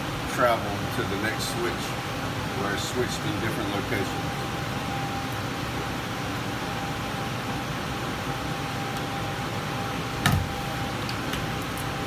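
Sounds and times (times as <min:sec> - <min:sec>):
fan-like background noise: 0:00.0 - 0:12.0.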